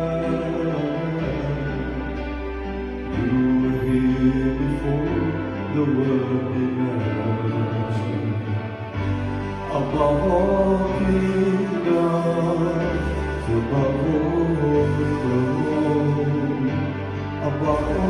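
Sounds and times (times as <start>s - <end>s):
electronic keyboard chords: 0.0s - 18.0s
held bass notes: 0.0s - 18.0s.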